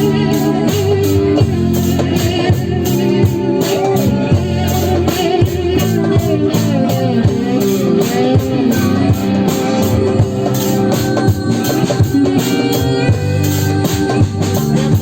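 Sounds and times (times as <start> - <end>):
live band psychedelic jam: 0.0 - 15.0.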